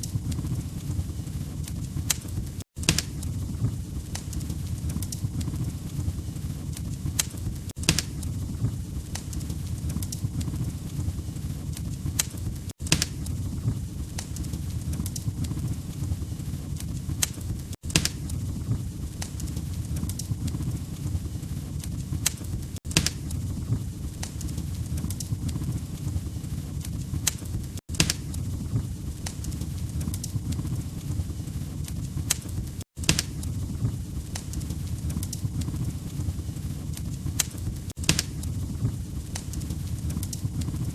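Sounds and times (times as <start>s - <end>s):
log fire crackling: 0.0s - 40.9s.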